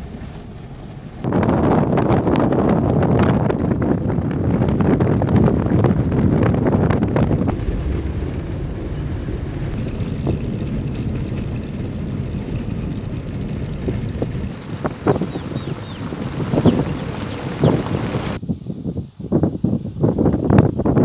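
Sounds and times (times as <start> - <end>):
car driving on dirt road: 0.0 - 18.4
wind buffeting microphone: 0.0 - 21.0.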